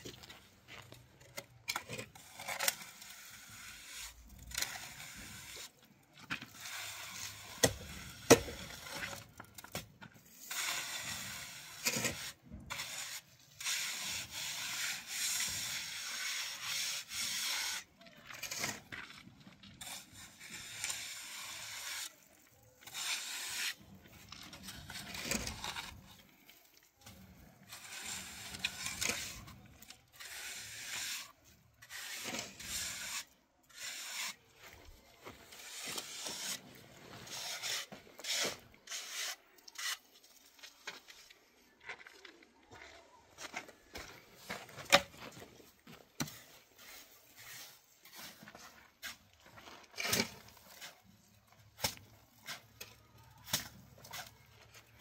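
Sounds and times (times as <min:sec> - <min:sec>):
scraping and rubbing strokes: 0:00.0 - 0:42.3, 0:43.4 - 0:55.0.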